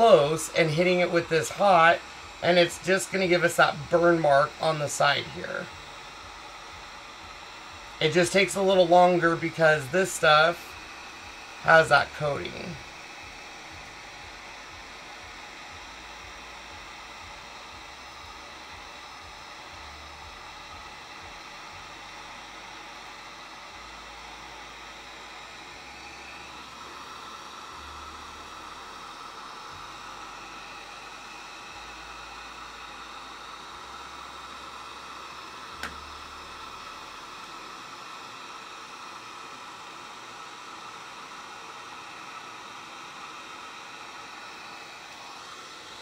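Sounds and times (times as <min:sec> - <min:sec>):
heat gun blowing hot air: 0:00.0 - 0:46.0.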